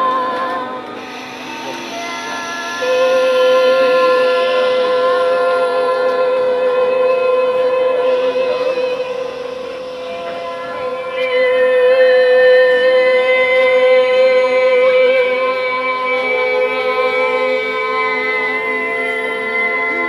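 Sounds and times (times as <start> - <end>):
choir holding long notes: 0.0 - 20.0.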